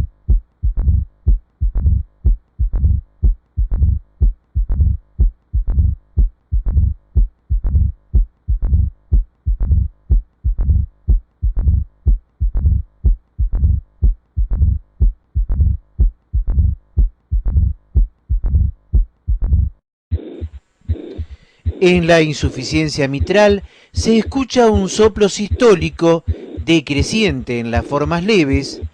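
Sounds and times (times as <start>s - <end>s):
heartbeat through stethoscope: 0.0s - 28.9s.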